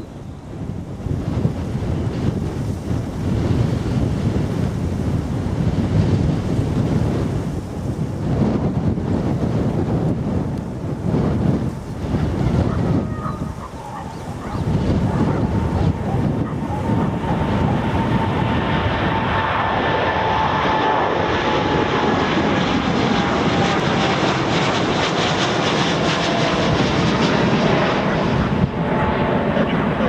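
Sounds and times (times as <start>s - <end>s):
jet engines whining at takeoff: 0.0s - 30.0s.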